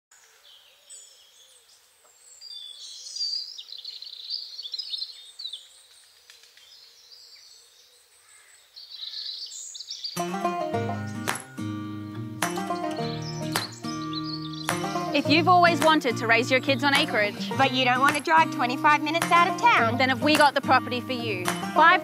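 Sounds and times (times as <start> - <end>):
birds chirping and calling: 0.3 - 10.3, 12.5 - 22.0.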